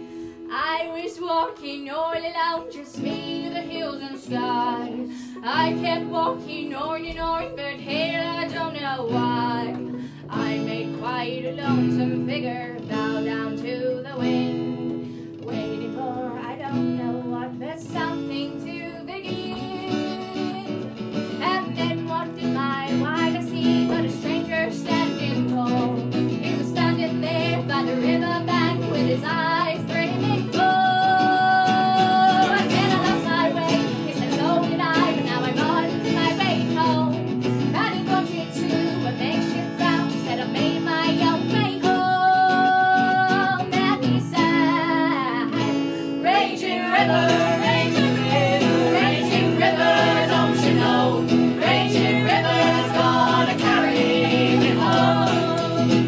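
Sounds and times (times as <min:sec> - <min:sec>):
strummed acoustic guitars: 0:00.0 - 0:56.0
women singing: 0:00.0 - 0:56.0.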